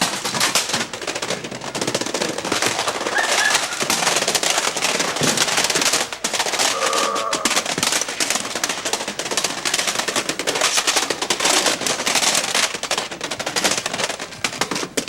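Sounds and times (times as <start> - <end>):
rapid sharp cracks and pops: 0.0 - 15.0.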